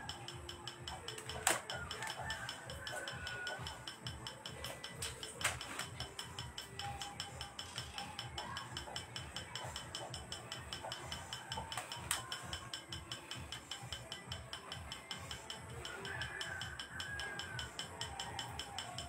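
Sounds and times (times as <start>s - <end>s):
rapid mechanical clicking: 0.0s - 19.0s.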